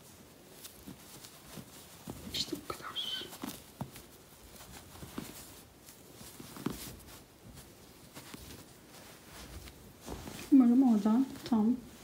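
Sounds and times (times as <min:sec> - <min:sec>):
hands rustling yarn pillow: 0:00.0 - 0:12.0.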